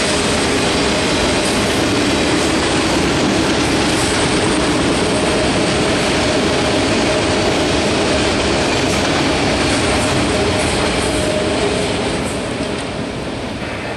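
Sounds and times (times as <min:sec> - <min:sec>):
steel wheels rushing on rails: 0:00.0 - 0:13.9.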